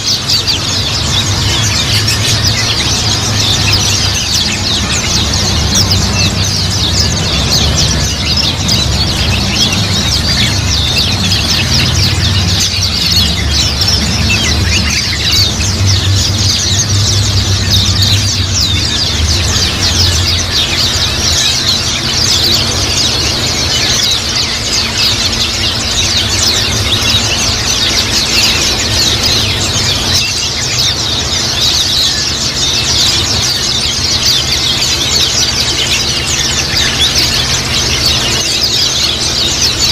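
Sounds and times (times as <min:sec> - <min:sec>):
birds twittering: 0:00.0 - 0:39.9
steady low hum: 0:00.0 - 0:39.9.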